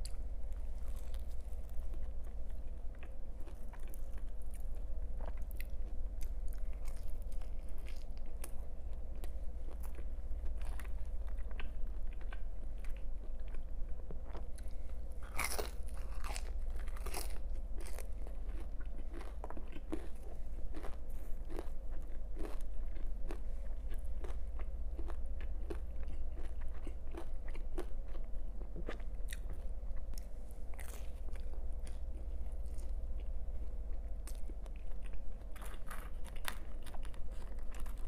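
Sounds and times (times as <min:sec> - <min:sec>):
chewing crunchy pizza: 0:00.0 - 0:38.0
low steady hum: 0:00.0 - 0:38.0.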